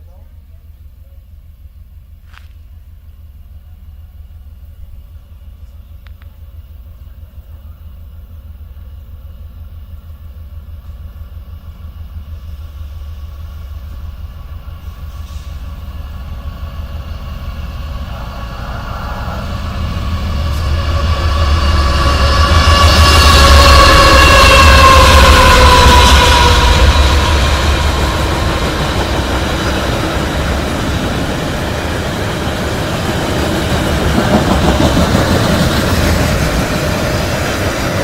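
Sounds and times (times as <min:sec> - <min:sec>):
freight train rumble: 0:00.0 - 0:38.0
train whine: 0:00.0 - 0:38.0.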